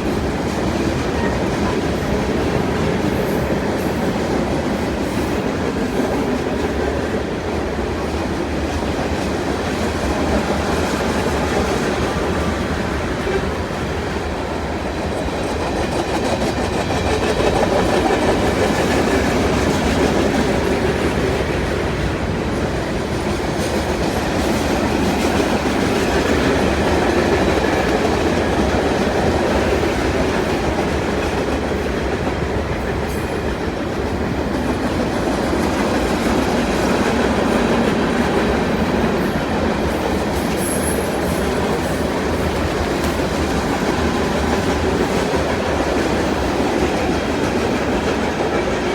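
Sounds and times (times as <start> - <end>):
freight train rolling past: 0.0 - 48.9.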